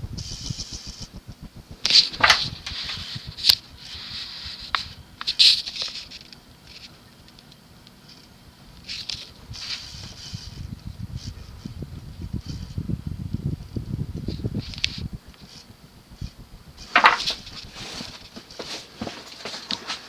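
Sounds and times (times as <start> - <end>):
ceiling fan motor hiss: 0.0 - 20.0.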